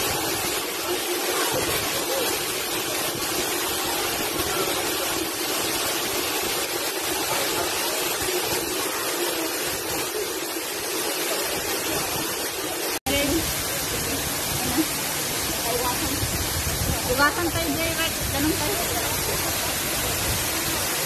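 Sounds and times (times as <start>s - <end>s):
waterfall pouring: 0.0s - 21.0s.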